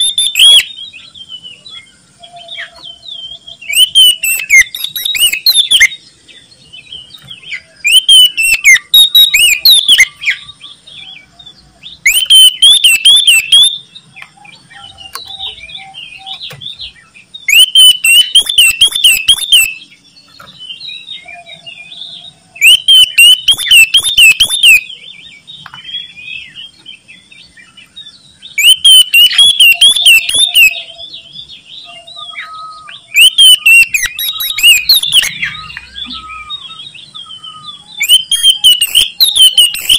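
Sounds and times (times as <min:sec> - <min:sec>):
bird singing loudly: 0:00.0 - 0:39.9
soft bird calls: 0:00.0 - 0:39.9.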